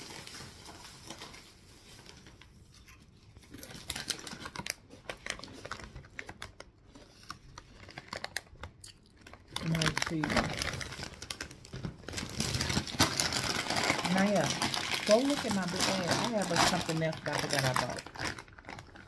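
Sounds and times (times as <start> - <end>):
chip bag crinkling: 0.0 - 19.0.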